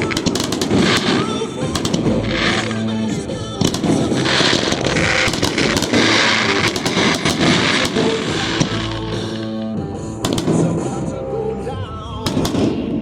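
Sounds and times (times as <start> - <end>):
fireworks crackling bursts: 0.0 - 11.0
fireworks bangs: 0.0 - 11.1, 12.2 - 13.0
music playing: 0.0 - 13.0.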